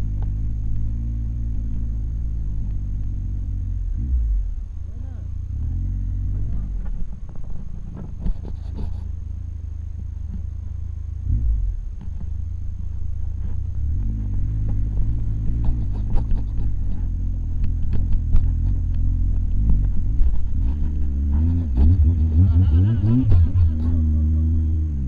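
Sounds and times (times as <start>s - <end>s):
motorcycle engine at low speed: 0.0s - 25.0s.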